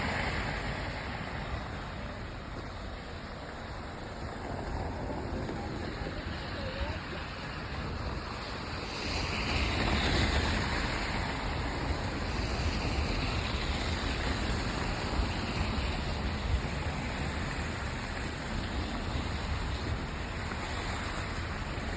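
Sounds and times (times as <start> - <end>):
passing traffic: 0.0 - 21.9
wind: 0.0 - 21.9.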